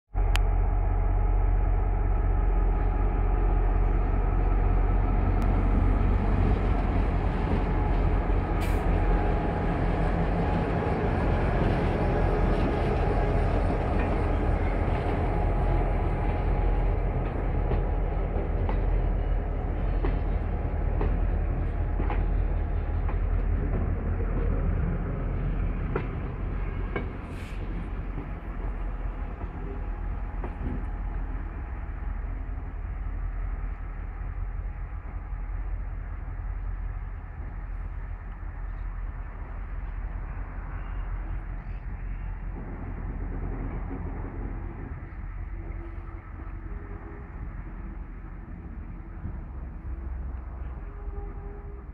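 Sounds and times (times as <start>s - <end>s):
diesel locomotive engine running: 0.1s - 51.9s.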